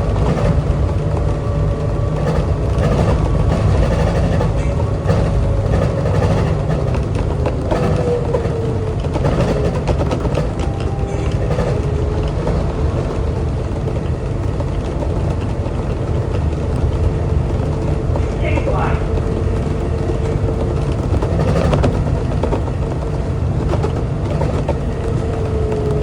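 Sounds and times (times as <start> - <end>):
train rumbling with motor whine: 0.0 - 26.0.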